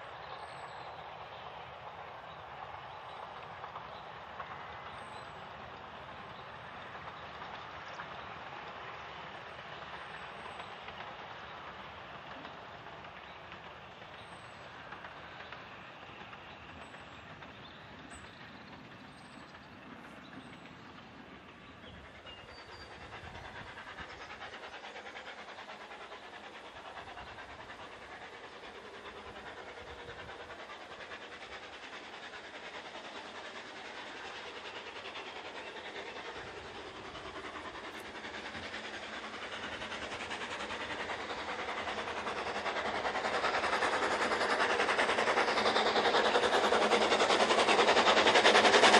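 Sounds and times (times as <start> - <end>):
steam locomotive: 0.0 - 48.9.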